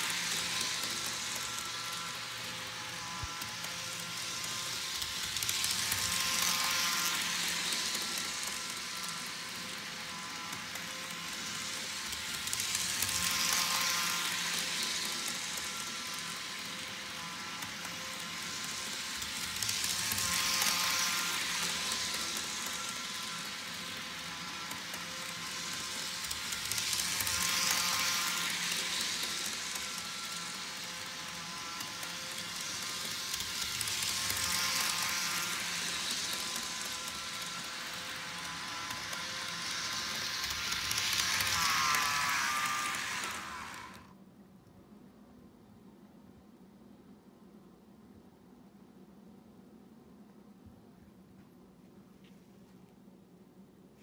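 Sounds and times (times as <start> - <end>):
model train running on rails: 0.0 - 44.2.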